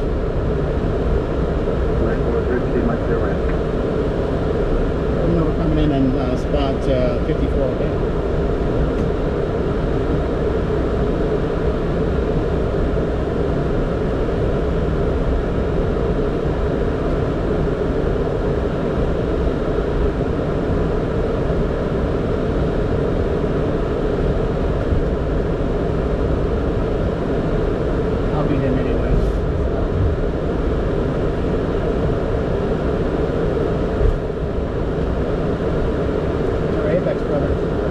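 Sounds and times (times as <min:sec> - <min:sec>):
aircraft cockpit rumble during taxi: 0:00.0 - 0:37.9.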